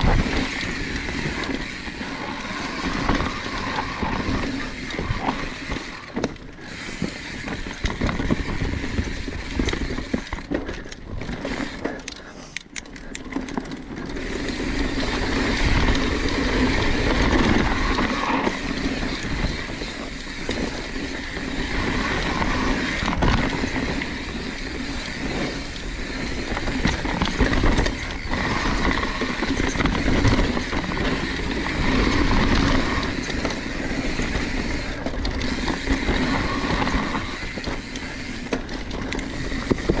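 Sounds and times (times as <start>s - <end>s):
bike knocks and rattles: 0.0s - 40.0s
bike tyres on dirt trail: 0.0s - 40.0s.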